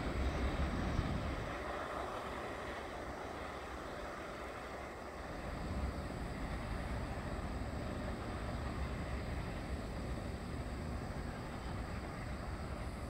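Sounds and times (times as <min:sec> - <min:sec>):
distant freight train rumble: 0:00.0 - 0:13.0
wind buffeting microphone: 0:00.0 - 0:13.0.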